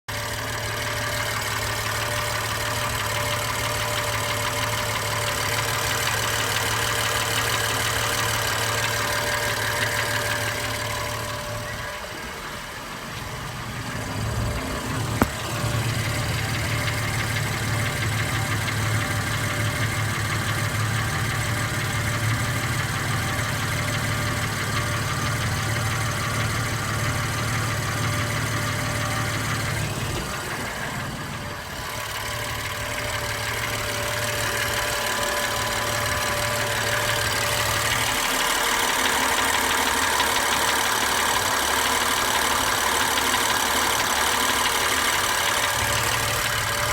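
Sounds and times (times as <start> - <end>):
car engine idling: 0.0 - 46.9
engine knocking: 0.0 - 46.9.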